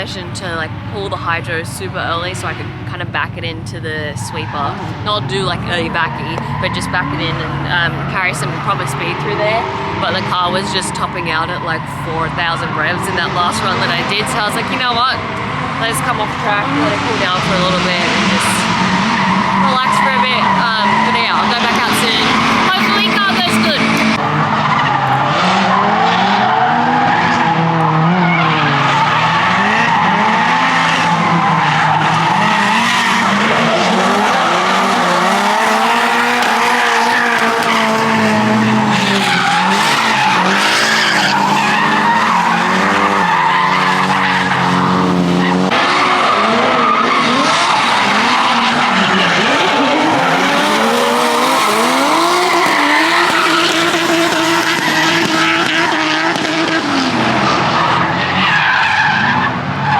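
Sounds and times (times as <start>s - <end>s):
car engine revving: 0.0s - 59.9s
tyres skidding: 0.0s - 59.9s.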